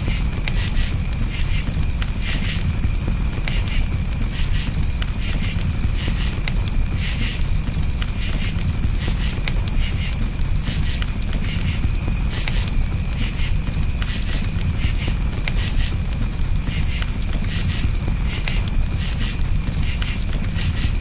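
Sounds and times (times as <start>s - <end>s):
crackling campfire: 0.0s - 21.0s
crickets chirping: 0.0s - 21.0s
fire pops: 0.0s - 21.0s.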